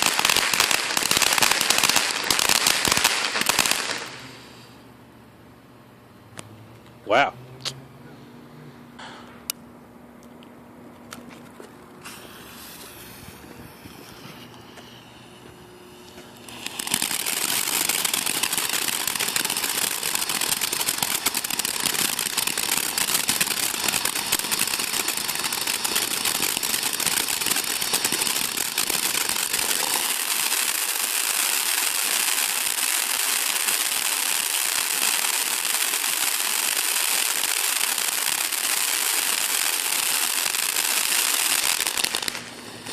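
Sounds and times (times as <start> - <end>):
firework fountain hissing and crackling: 0.0 - 4.8, 12.0 - 42.9.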